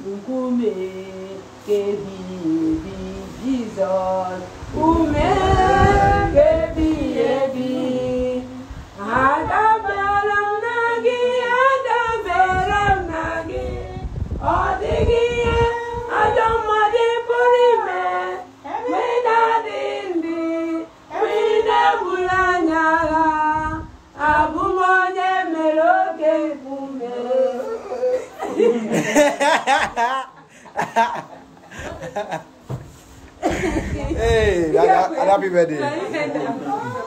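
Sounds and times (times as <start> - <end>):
group singing without instruments: 0.0 - 32.5.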